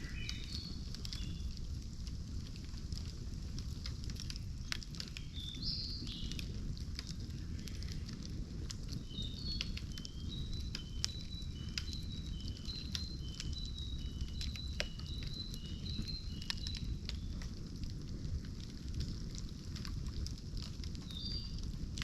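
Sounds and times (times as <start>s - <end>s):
campfire crackling and popping: 0.0s - 22.0s
fire low rumble: 0.0s - 22.0s.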